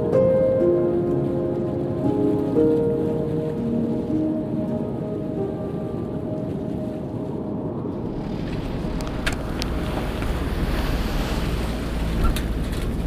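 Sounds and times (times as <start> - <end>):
waves rushing: 0.0 - 13.0
wind buffeting microphone: 0.0 - 13.0.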